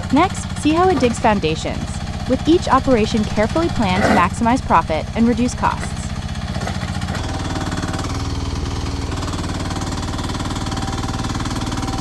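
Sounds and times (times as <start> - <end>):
mini excavator engine running: 0.0 - 12.0.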